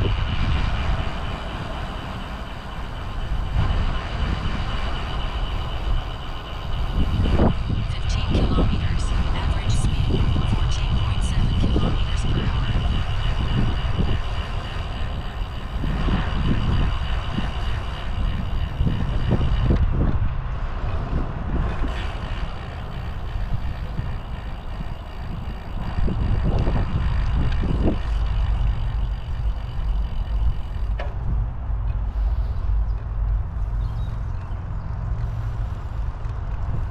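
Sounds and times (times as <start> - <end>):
thin high whine: 0.0 - 20.0, 20.8 - 33.8
wind and road rumble: 0.0 - 36.9.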